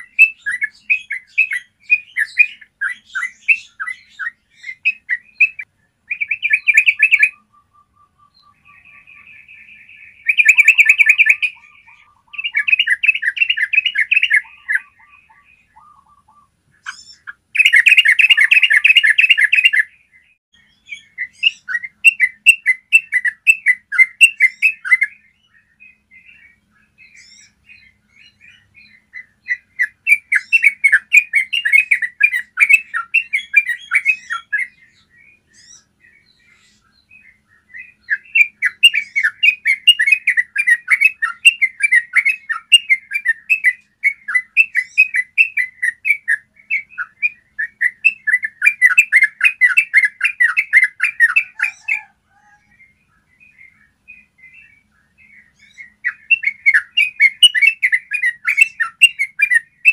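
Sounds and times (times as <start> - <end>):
bird singing rolling chattering runs: 0.0 - 52.0
single bird chirps: 0.0 - 59.9.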